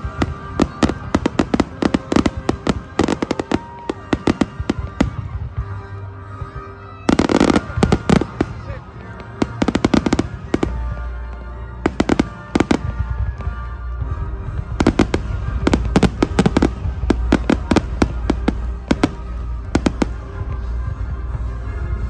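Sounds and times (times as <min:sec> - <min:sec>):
fireworks bursting with sharp bangs: 0:00.0 - 0:22.0
music playing: 0:00.0 - 0:22.0.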